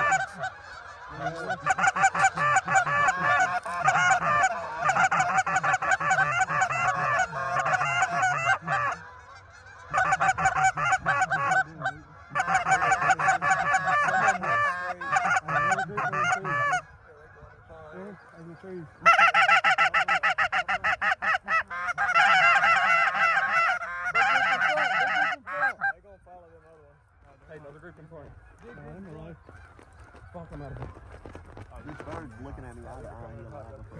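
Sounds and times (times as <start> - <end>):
geese honking: 0.0 - 33.9.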